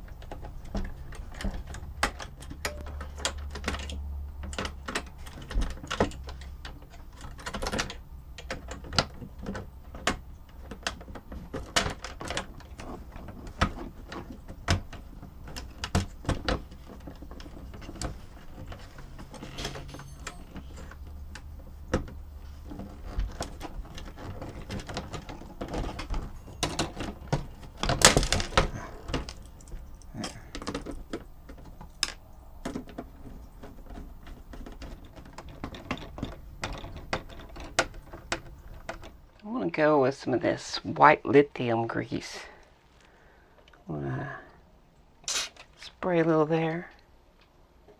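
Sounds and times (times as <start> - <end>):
clicks of plastic and metal parts: 0.0 - 39.2
parts clattering: 0.0 - 39.4, 45.1 - 46.0.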